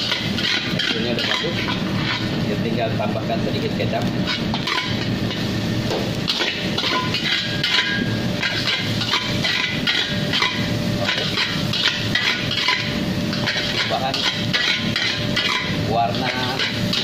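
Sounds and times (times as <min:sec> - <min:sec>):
spatula scraping a wok: 0:00.0 - 0:02.6, 0:04.2 - 0:17.0.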